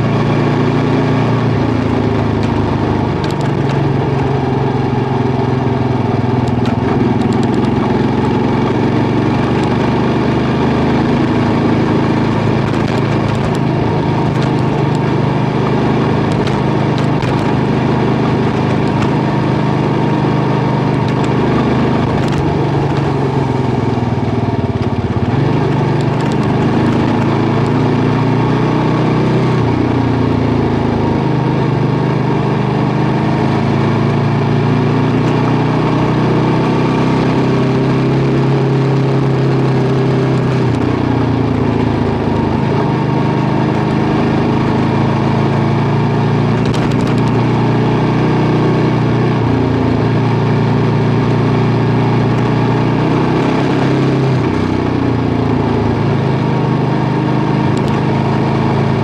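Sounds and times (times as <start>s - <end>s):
motorcycle engine running: 0.0s - 59.0s
tyre and road noise: 0.0s - 59.0s.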